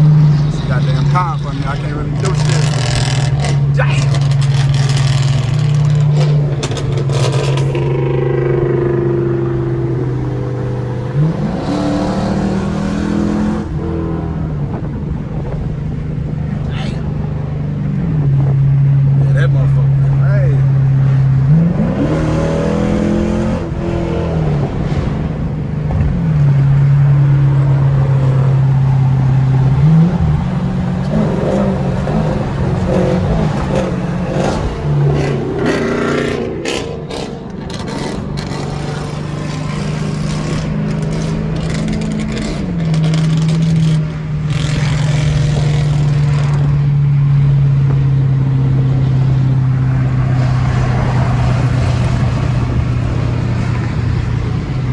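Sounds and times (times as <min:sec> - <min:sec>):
car exhaust droning: 0:00.0 - 0:54.9.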